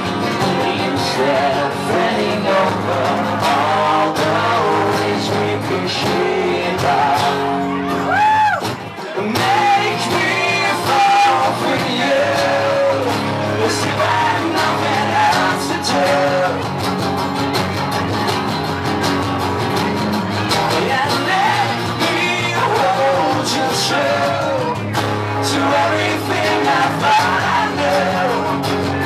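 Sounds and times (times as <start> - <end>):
voices singing: 0.0 - 17.2, 20.4 - 29.0
acoustic guitar: 0.0 - 29.0
electric guitar: 0.0 - 29.0.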